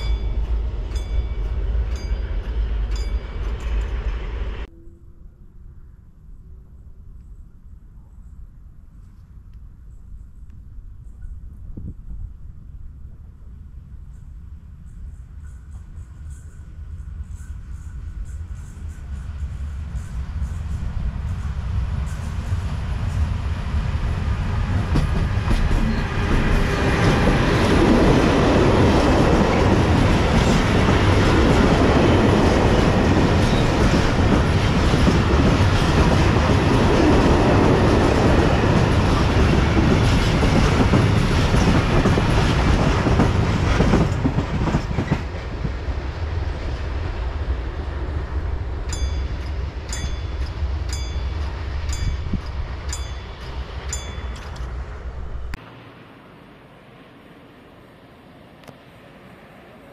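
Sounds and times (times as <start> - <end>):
freight train rumbling past: 0.0 - 5.9, 12.0 - 59.9.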